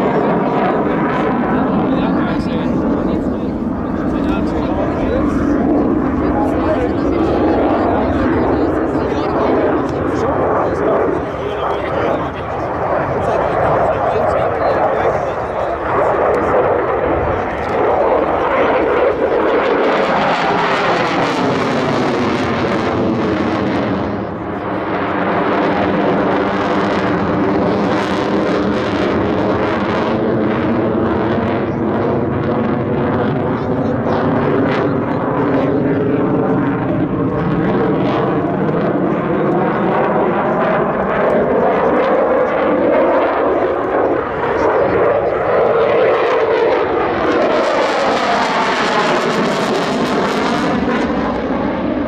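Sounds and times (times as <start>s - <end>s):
fighter jet flying overhead: 0.0s - 52.0s.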